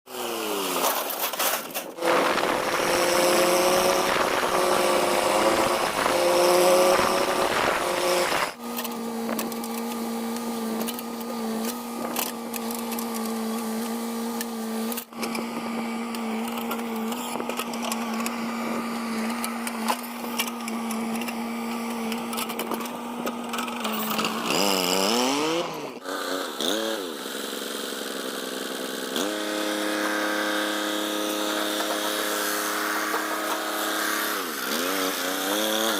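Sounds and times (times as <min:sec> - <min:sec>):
diesel engine revving under load: 0:01.9 - 0:35.9.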